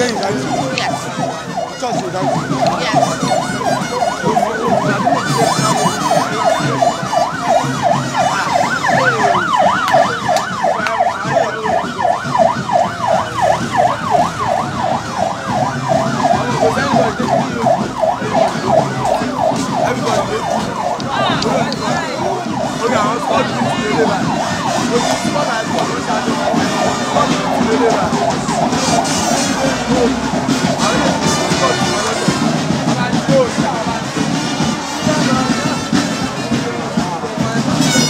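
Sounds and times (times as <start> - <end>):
siren yelping: 0.0 - 37.0.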